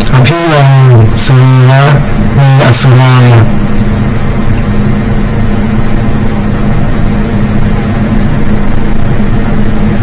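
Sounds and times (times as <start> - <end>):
loud steady low hum: 0.0 - 10.0.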